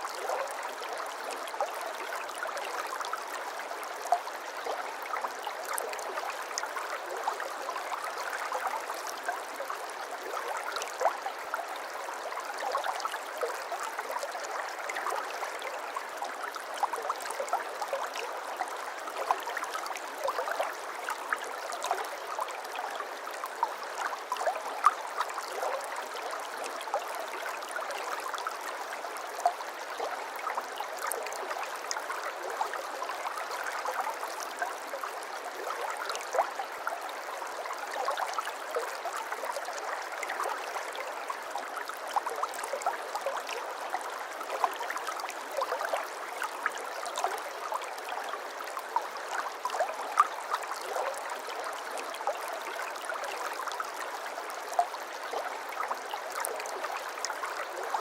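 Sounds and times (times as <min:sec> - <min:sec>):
stream water burbling: 0:00.0 - 0:58.0.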